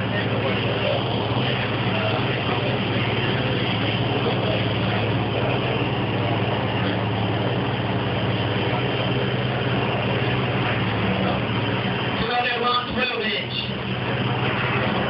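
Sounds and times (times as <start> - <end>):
subwoofer low bass tone: 0.0 - 15.0.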